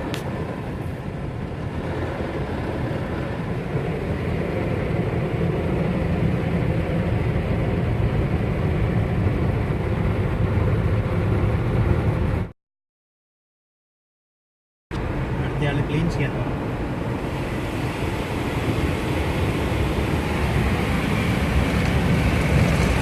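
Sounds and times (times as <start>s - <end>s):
car wash machinery rumble: 0.0s - 12.5s, 15.0s - 23.0s.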